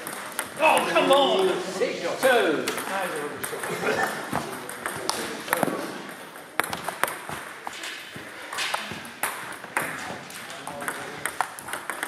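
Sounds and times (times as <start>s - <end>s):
table tennis balls clicking: 0.0s - 1.6s, 2.5s - 12.0s.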